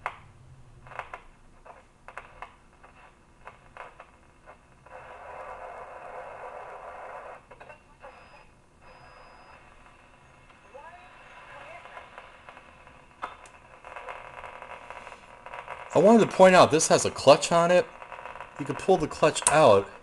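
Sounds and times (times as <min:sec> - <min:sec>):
radio static crackles: 0:00.8 - 0:20.0
radio hiss: 0:02.8 - 0:20.0.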